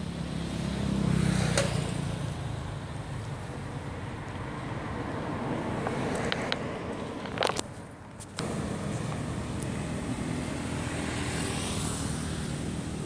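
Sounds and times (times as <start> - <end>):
passing vehicle engine rumble: 0.0 - 13.0.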